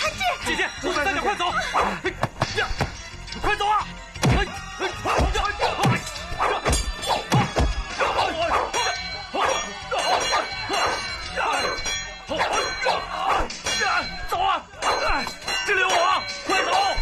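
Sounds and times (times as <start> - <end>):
man shouting: 0.0 - 17.0
men shouting fight cries: 0.0 - 17.0.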